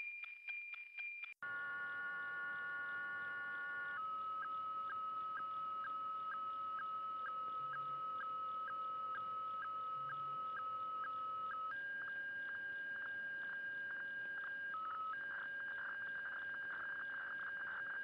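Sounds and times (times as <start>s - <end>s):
radiofax signal whistle tone: 1.4s - 18.0s.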